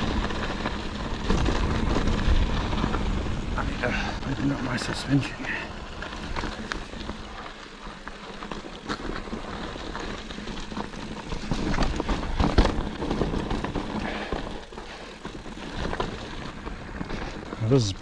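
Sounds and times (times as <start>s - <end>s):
bike clicks and rattles: 0.0s - 18.0s
tyres crunching over gravel: 0.0s - 18.0s.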